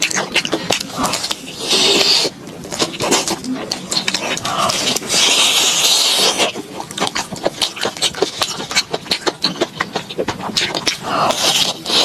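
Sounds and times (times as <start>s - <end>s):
crunchy bite: 0.0s - 12.0s
wet chewing clicks: 0.0s - 12.0s.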